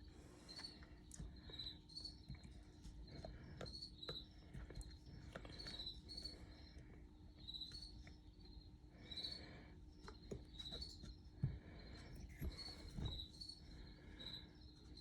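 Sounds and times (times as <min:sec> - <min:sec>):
low steady hum: 0:00.0 - 0:15.0
cricket chirping: 0:00.4 - 0:04.4, 0:05.4 - 0:15.0.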